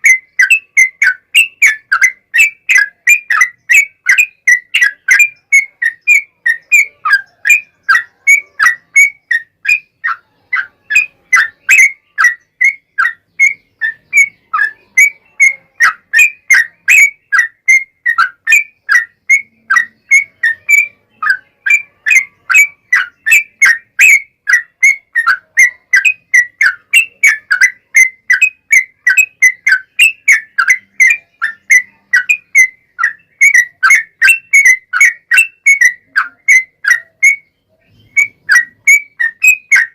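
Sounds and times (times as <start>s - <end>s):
bulbul singing whistled notes: 0.0s - 39.9s.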